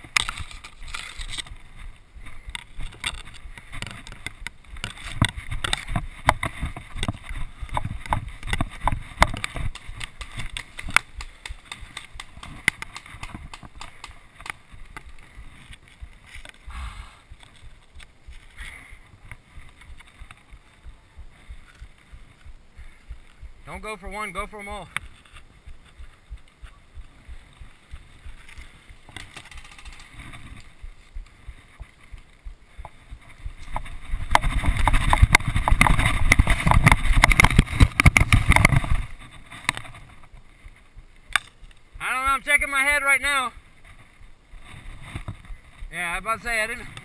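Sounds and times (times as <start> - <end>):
camera rustling and knocking: 0.0 - 23.6, 24.5 - 41.9, 43.8 - 46.0.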